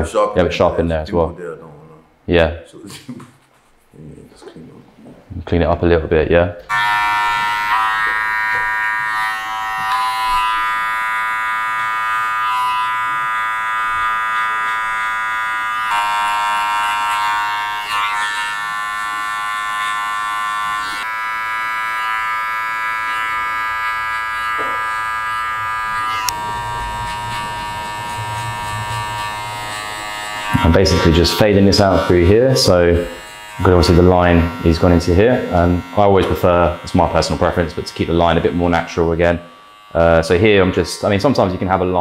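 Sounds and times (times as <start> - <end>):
electric hair clipper buzzing: 6.7 - 42.0.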